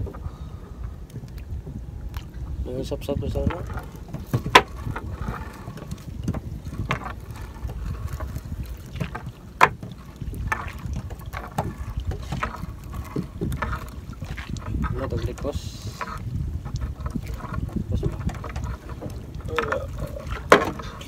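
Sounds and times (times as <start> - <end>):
wind rumbling on microphone: 0.0 - 21.0
net and hull knocks and rustles: 3.0 - 21.0.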